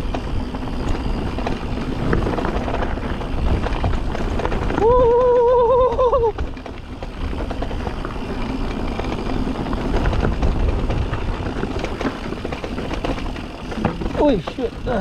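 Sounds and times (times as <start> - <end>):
bike rattling on rocks: 0.0 - 15.0
wind buffeting microphone: 0.0 - 15.0.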